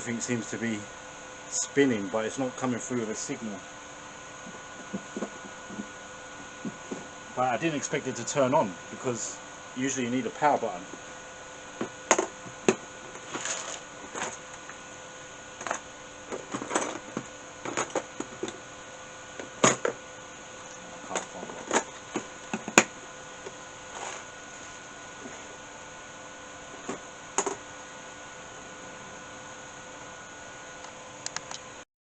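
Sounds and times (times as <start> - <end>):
computer hum: 0.0 - 31.8.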